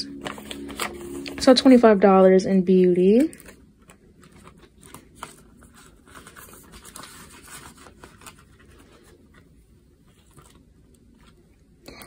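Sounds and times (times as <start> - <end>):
banknotes and plastic rustling: 0.0 - 11.7.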